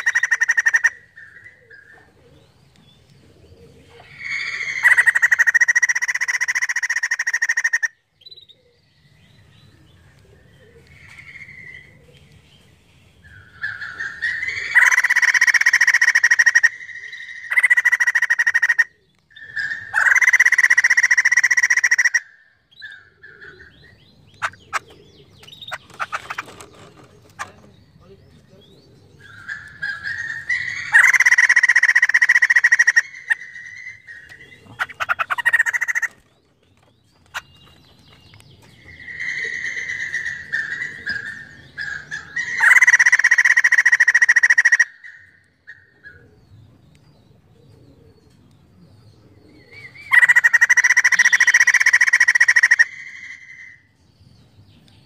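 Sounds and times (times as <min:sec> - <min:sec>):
birds harsh chattering calls: 0:00.0 - 0:46.6, 0:47.7 - 0:54.6.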